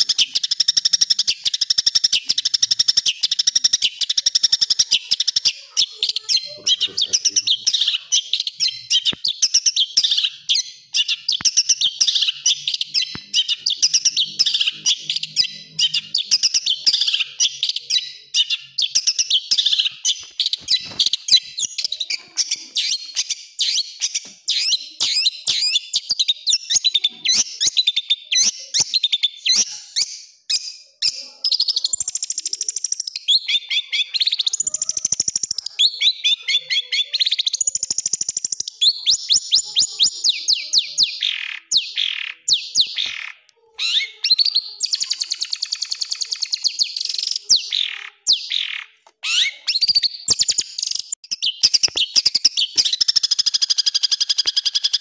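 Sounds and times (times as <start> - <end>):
bird harsh chattering song: 0.0 - 55.0.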